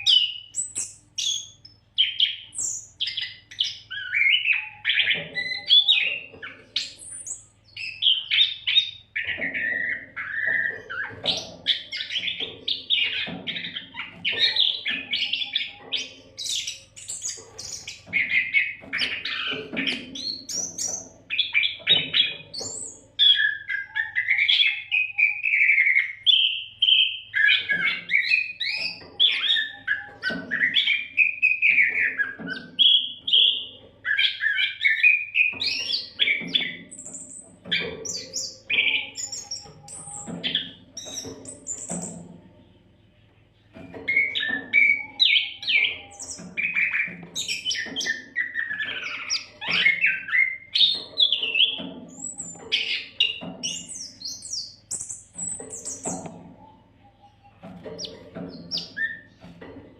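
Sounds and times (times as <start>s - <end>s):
bird singing whistled song: 0.0s - 42.2s, 43.7s - 59.4s.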